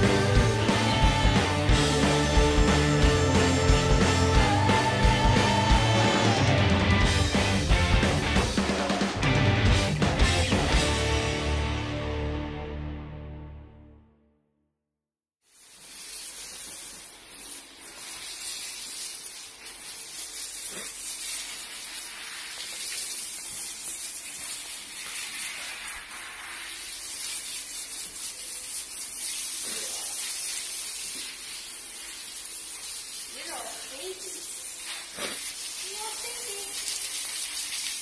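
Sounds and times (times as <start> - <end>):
hose water spraying: 0.0 - 8.8, 15.4 - 38.0.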